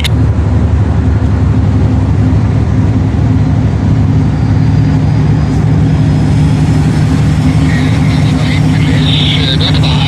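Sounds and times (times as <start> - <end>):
tugboat diesel engines droning: 0.0 - 10.0.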